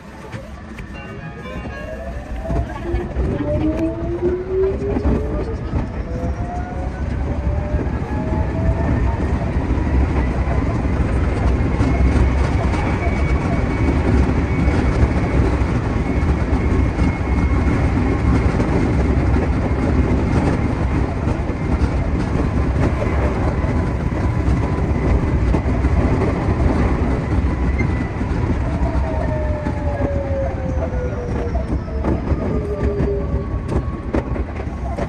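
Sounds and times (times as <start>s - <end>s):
rail-joint clickety-clack: 0.0s - 35.0s
wheels rumbling on rail: 0.0s - 35.0s.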